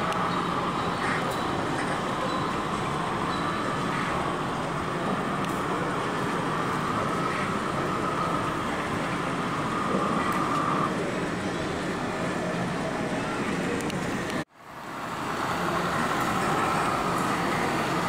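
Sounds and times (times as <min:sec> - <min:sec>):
thin steady whine: 0:00.0 - 0:18.0.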